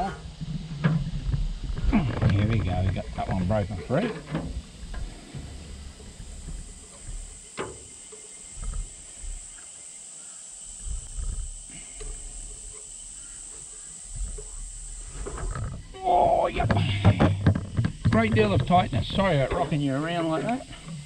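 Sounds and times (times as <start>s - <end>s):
low bumps and rumbles: 0.0s - 7.6s, 8.4s - 9.6s, 10.7s - 12.7s, 14.0s - 21.0s.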